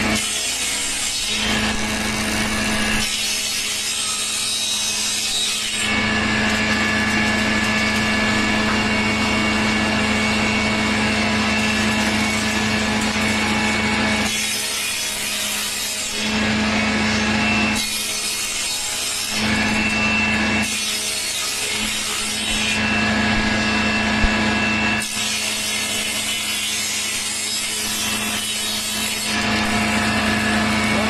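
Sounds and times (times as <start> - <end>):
power tool cutting wood: 0.0 - 31.0.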